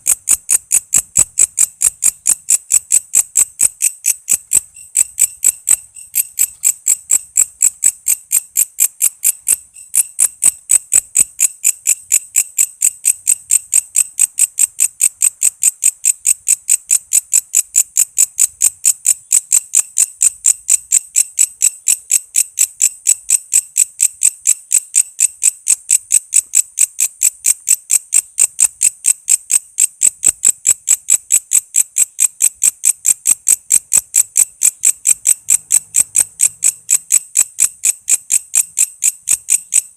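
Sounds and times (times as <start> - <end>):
katydid calling: 0.0 - 39.9.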